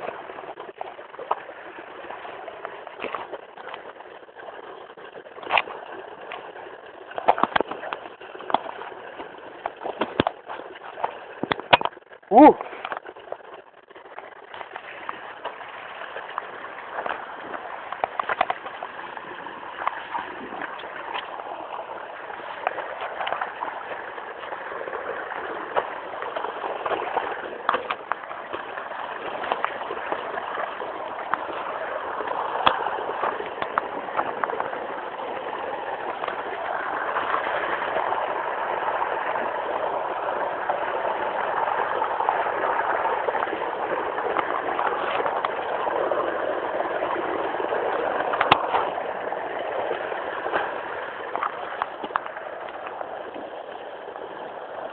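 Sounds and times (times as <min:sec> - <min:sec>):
sharp taps and drips: 0:00.0 - 0:19.0, 0:19.6 - 0:38.0, 0:40.7 - 0:54.2
steady rain: 0:00.0 - 0:54.9.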